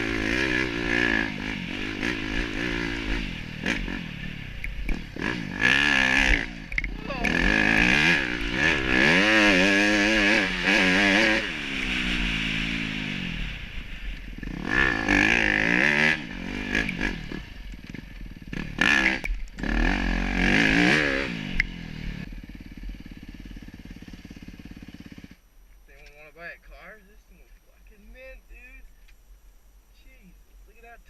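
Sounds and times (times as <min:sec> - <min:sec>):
dirt bike engine revving: 0:00.0 - 0:25.4.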